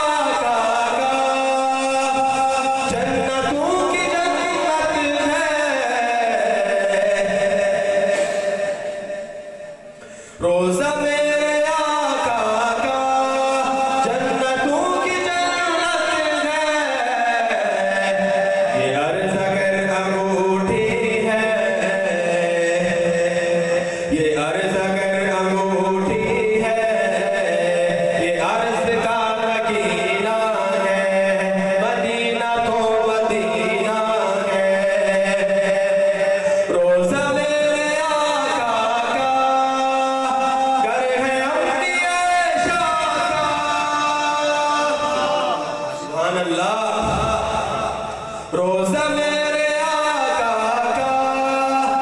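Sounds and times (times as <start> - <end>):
man singing devotional song: 0.0 - 52.0.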